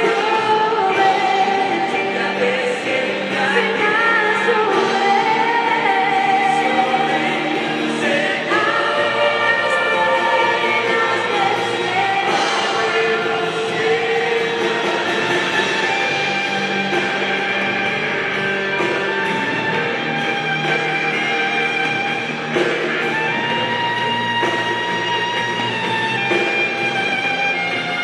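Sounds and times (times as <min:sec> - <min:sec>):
group singing: 0:00.0 - 0:23.5
worship band playing: 0:00.0 - 0:28.0.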